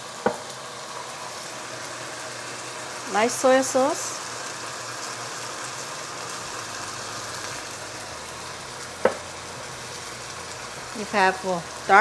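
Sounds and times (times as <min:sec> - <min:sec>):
chicken sizzling in a wok: 0:00.0 - 0:12.0.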